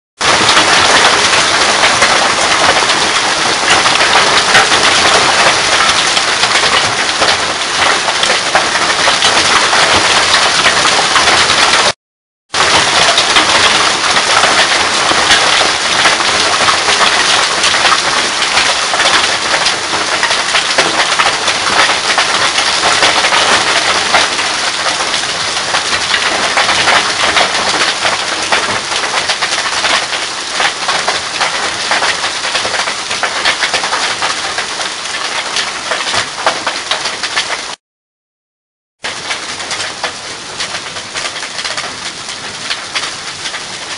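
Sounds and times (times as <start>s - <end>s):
hail and rain pelting ground: 0.2s - 12.0s, 12.6s - 37.8s, 39.0s - 43.9s.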